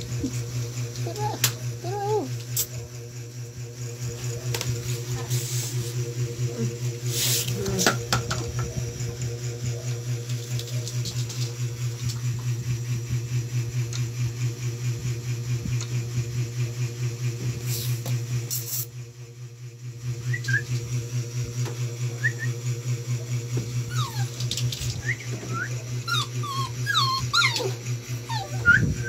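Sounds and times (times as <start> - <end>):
pulsing machine hum: 0.0 - 29.0.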